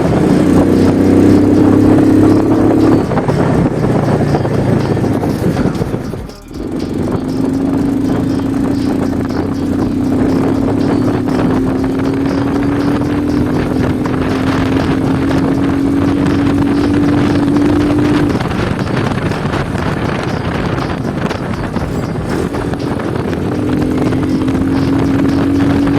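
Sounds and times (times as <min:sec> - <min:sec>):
moped engine droning: 0:00.0 - 0:25.9.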